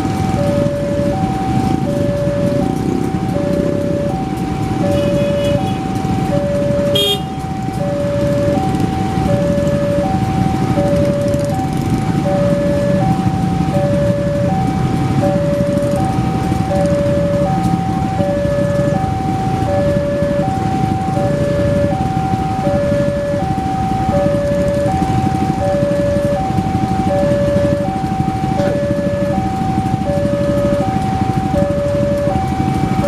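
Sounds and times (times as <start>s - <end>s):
road traffic rumble: 0.0s - 33.0s
two-tone level crossing alarm: 0.0s - 33.0s.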